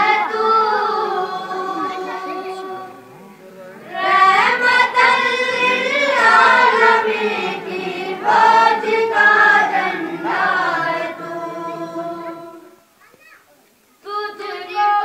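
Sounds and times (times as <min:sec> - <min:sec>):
voices singing long notes: 0:00.0 - 0:13.0.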